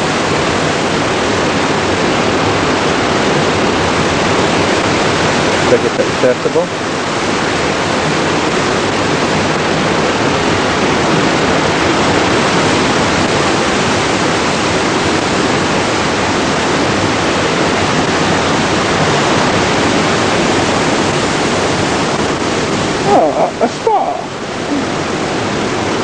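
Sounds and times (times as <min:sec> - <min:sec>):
waterfall: 0:00.0 - 0:26.0.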